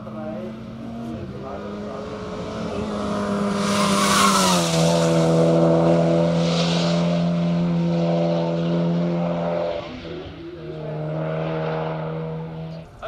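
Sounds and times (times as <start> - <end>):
race car engine passing by: 0.0 - 13.0
rushing tyre noise: 0.0 - 13.0.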